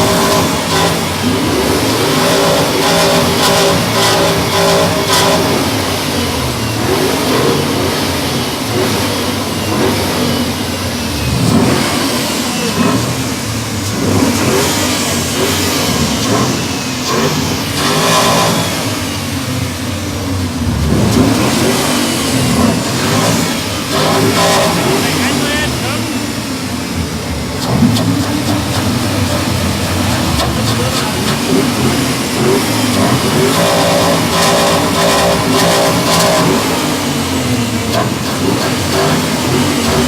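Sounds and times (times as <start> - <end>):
car engines revving: 0.0 - 40.0.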